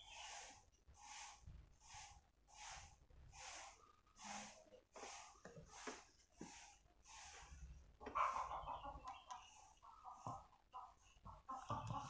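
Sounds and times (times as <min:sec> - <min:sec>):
soft rhythmic breathing: 0:00.0 - 0:12.0.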